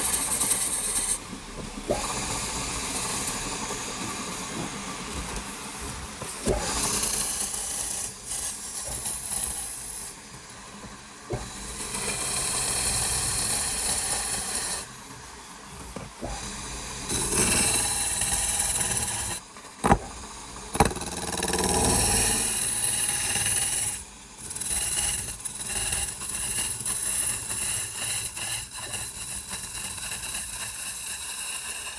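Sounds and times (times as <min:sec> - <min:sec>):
power tool working wood: 0:00.0 - 0:10.6, 0:11.3 - 0:14.9, 0:16.2 - 0:31.9.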